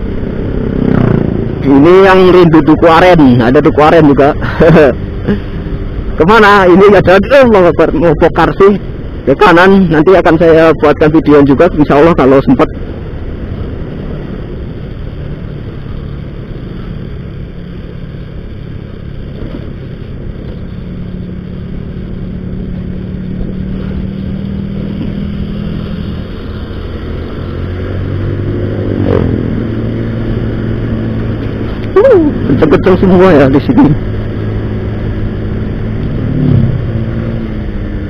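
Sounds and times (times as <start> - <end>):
wind noise: 0.0 - 38.0.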